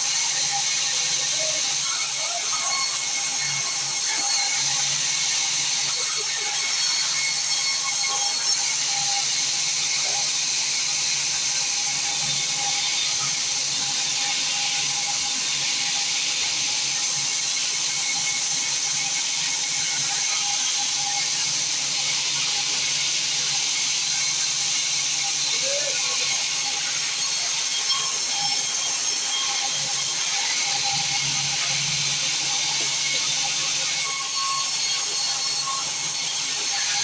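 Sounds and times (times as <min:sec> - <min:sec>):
sawmill saw machinery running: 0:00.0 - 0:37.0.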